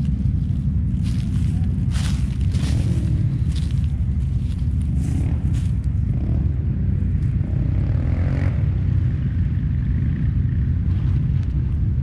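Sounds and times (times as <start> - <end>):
atv engine rumbling: 0.0 - 12.0.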